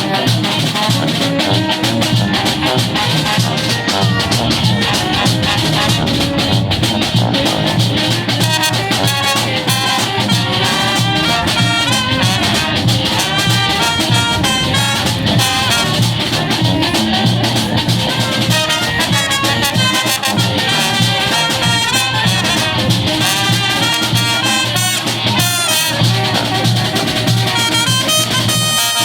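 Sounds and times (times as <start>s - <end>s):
brass band playing: 0.0s - 29.0s
steady drum beat: 0.0s - 29.0s.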